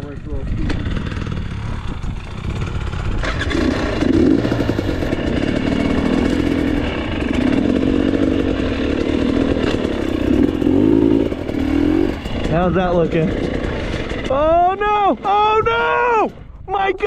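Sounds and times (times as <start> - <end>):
dirt bike engine revving: 0.0 - 16.5
sharp clatter: 0.5 - 15.5.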